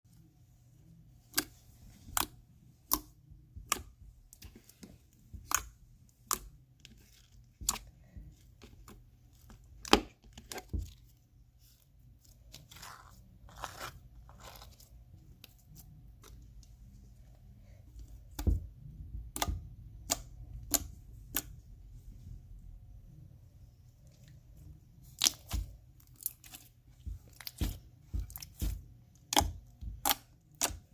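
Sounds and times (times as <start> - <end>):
slime squishing: 0.1 - 22.4, 23.8 - 30.9.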